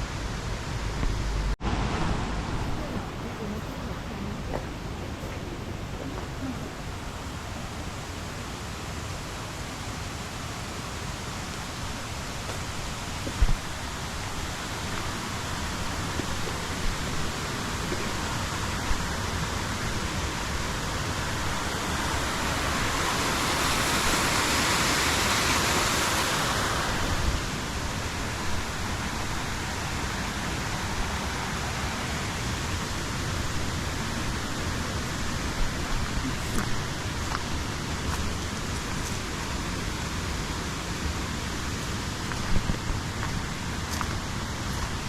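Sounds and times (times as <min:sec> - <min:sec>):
river water rushing over stones: 0:00.0 - 0:45.0.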